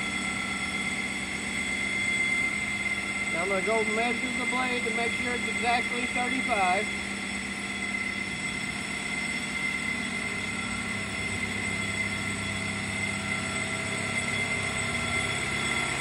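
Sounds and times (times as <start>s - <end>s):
constant whining tones: 0.0s - 16.0s
machinery humming: 0.0s - 16.0s.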